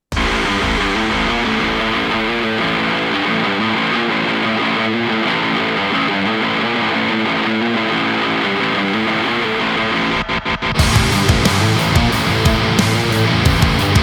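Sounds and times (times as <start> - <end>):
rock music: 0.0 - 14.0
strummed guitar riff: 0.2 - 14.0.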